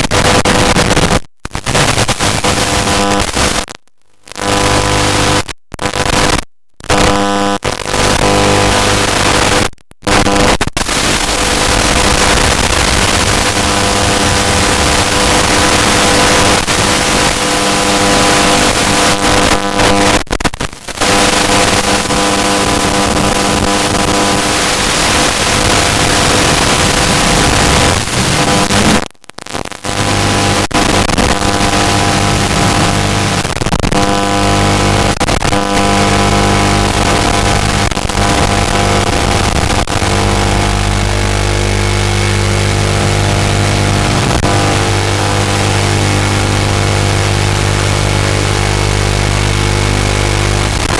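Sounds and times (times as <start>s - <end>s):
loud static hiss: 0.0s - 50.9s
steady buzzing hum: 6.9s - 20.2s, 20.8s - 50.9s.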